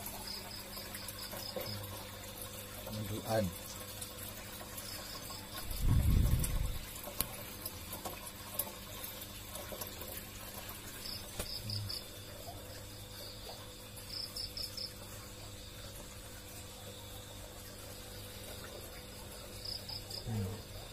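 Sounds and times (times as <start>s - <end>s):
faint steady hum: 0.0s - 20.9s
insects chirping: 0.0s - 20.9s.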